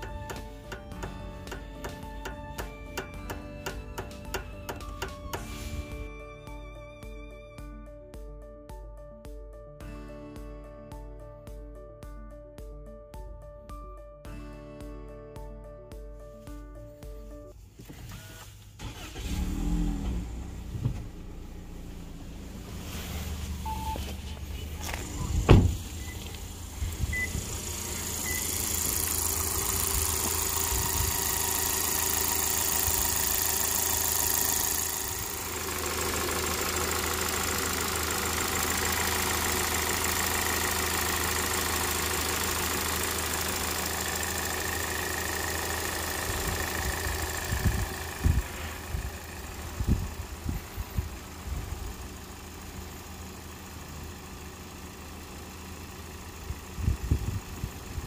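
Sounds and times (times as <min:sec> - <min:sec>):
car engine starting and idling: 0:00.0 - 0:07.3, 0:17.6 - 0:58.0.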